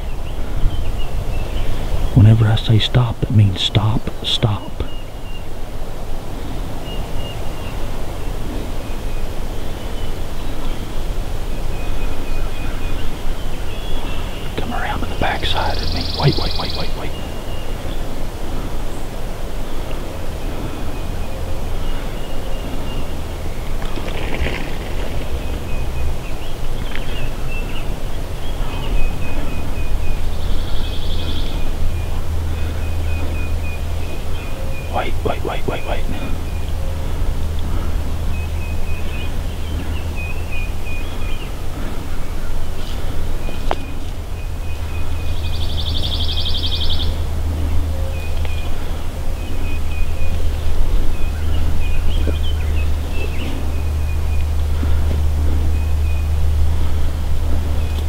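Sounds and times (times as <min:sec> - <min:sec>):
wind rumbling on microphone: 0:00.0 - 0:03.4, 0:04.0 - 0:58.0
high bird calls: 0:00.0 - 0:58.0
bird trill: 0:06.8 - 0:58.0.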